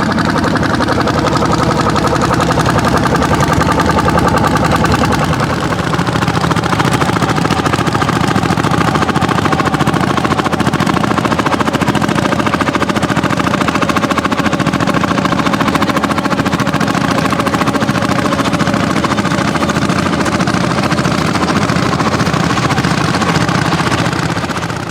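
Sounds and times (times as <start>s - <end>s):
tractor engines running: 0.0s - 24.9s.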